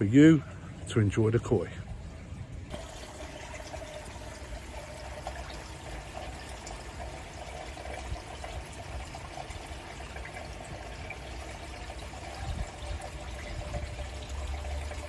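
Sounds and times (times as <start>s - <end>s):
water splashing on surface: 2.0s - 15.0s
water pouring into a pond: 2.7s - 15.0s.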